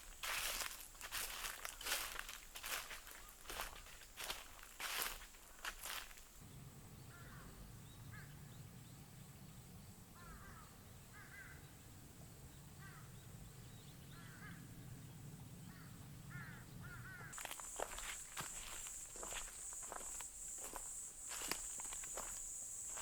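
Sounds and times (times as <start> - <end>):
faint bird calls: 0.3 - 11.8, 12.6 - 23.0.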